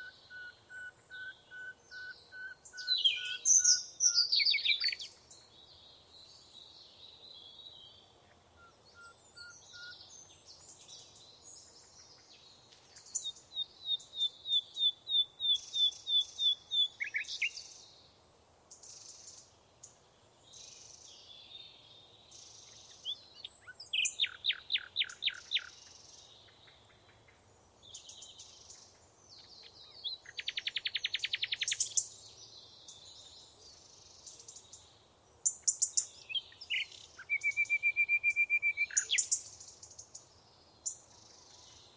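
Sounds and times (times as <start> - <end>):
faint outdoor hiss: 0.0 - 41.9
soft bird chirps: 0.0 - 41.9
songbirds singing: 0.0 - 41.9.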